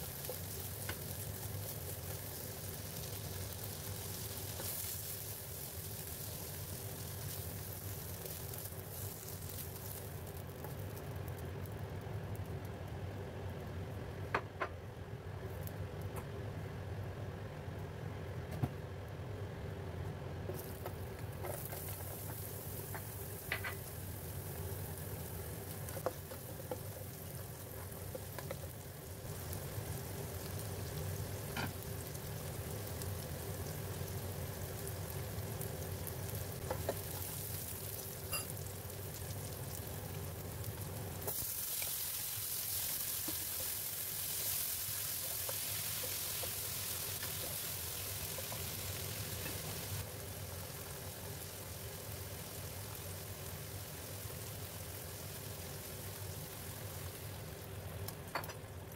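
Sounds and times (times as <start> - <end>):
garlic sizzling in hot oil: 0.0 - 12.9, 20.5 - 58.9.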